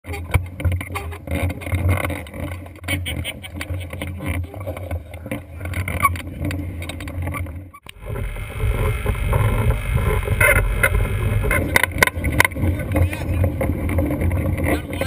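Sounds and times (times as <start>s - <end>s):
kart rattling and clicking: 0.0s - 15.0s
wind and wheels rumbling: 0.0s - 15.0s.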